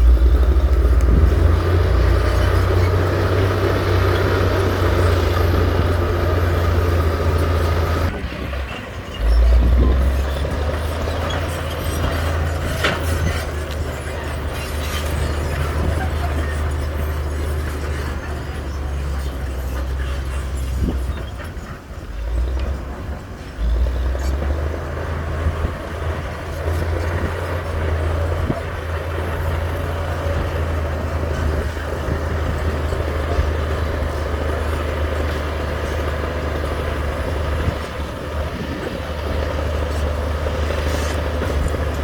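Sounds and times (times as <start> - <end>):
diesel machinery engine rumble: 0.0 - 42.0.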